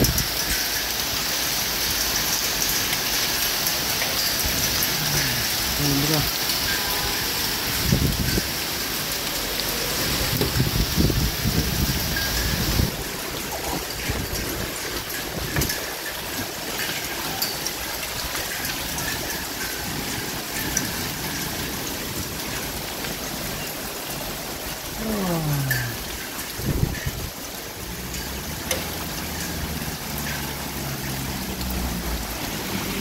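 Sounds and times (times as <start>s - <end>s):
hail and rain falling: 0.0s - 33.0s.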